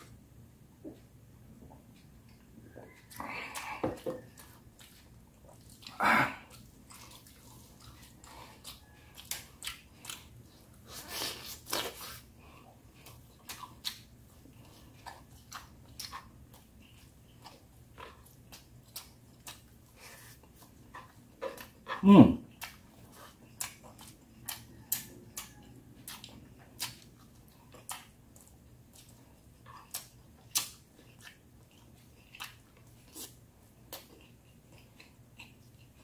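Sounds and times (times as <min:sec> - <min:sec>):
wet chewing and lip smacks: 0:01.6 - 0:36.0.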